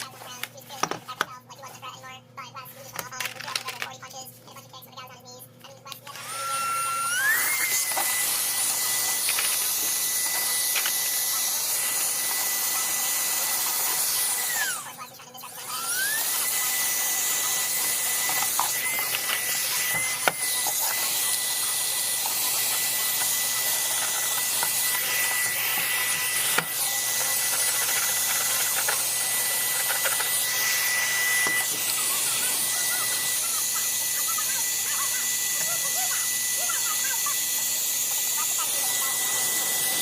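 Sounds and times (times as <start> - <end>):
small electric motor whining: 6.0 - 40.0.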